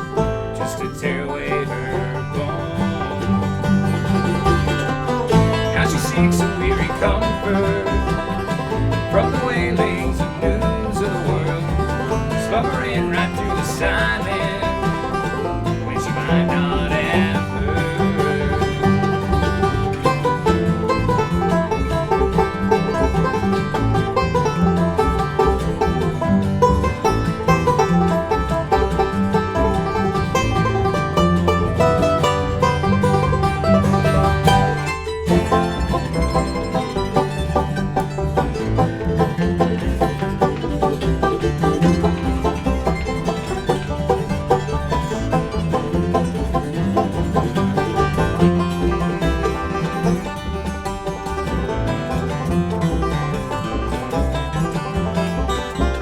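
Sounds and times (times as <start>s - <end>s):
banjo: 0.0s - 56.0s
bluegrass band playing: 0.0s - 56.0s.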